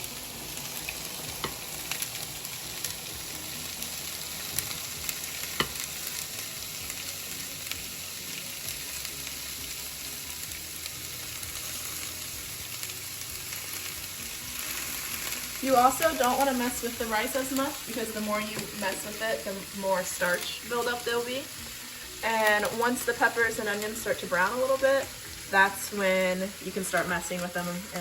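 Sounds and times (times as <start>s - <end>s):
vegetables sizzling in a skillet: 0.0s - 28.0s.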